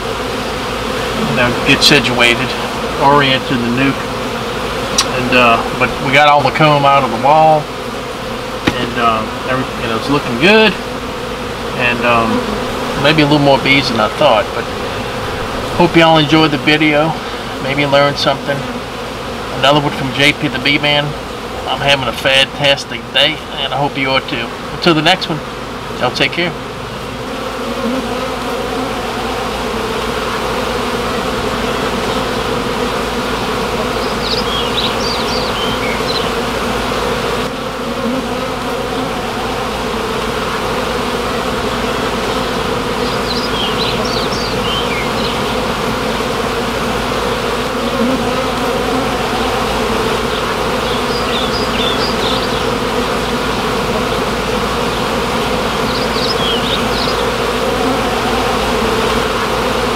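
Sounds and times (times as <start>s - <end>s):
honey bees buzzing: 0.0s - 59.9s.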